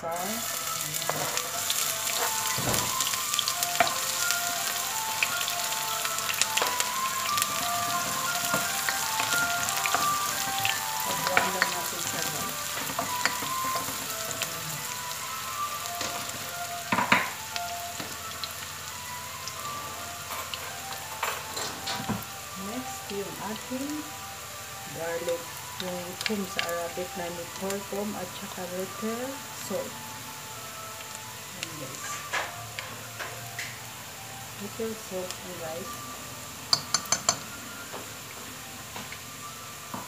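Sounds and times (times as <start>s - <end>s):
onion sizzling in hot oil: 0.0s - 40.0s.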